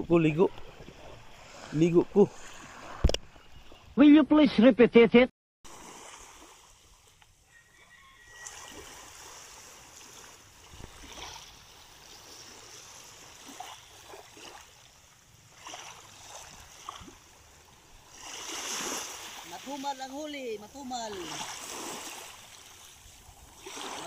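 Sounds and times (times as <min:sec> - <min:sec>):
sea water lapping: 0:00.0 - 0:04.0, 0:05.7 - 0:07.3, 0:08.2 - 0:24.0
paddle splashes: 0:00.5 - 0:03.9, 0:05.7 - 0:07.4, 0:08.3 - 0:24.0.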